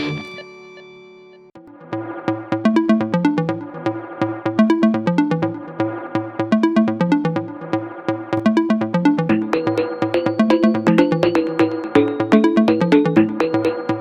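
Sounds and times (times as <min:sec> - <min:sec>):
electronic synth music with beat: 0:01.6 - 0:14.0.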